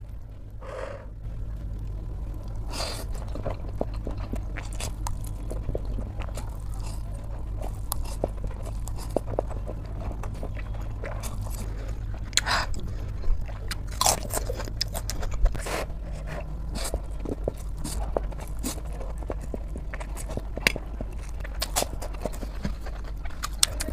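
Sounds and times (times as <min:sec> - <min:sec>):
crunching and chewing: 0:00.0 - 0:23.9
steady low hum: 0:00.0 - 0:23.9.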